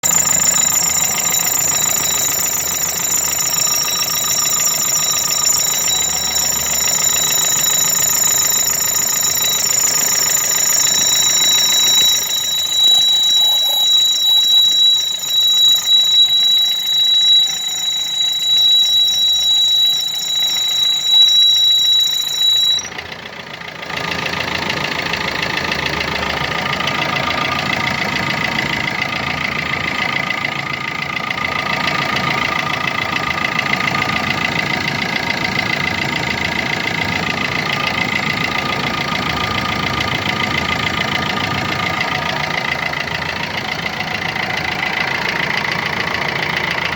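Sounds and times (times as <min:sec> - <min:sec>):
diesel engine running: 0:00.0 - 0:46.9
high-pitched engine whistle: 0:00.0 - 0:46.9.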